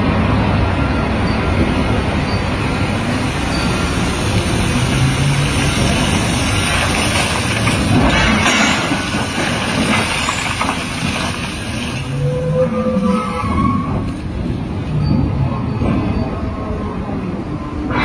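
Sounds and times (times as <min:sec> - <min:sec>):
excavator machinery rumbling: 0:00.0 - 0:18.0.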